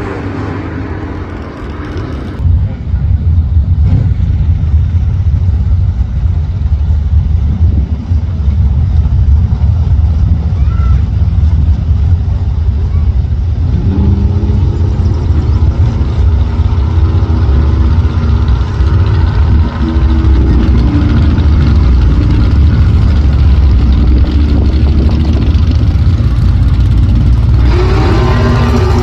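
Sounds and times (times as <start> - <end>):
muscle car engines idling: 0.0 - 29.0.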